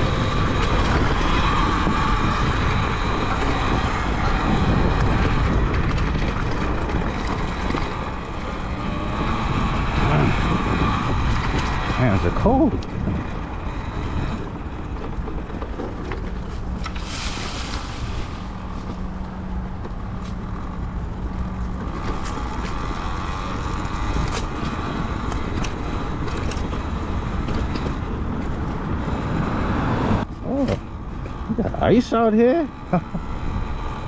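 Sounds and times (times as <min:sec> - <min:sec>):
wind on microphone: 0:00.0 - 0:31.7
tire rolling rumble: 0:00.0 - 0:34.0.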